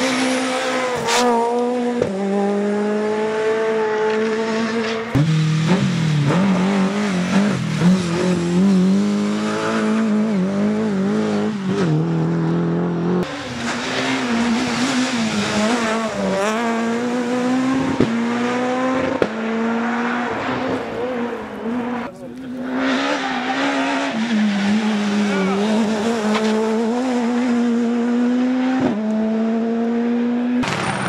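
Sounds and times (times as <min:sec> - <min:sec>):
rally car engines at full throttle: 0:00.0 - 0:31.0.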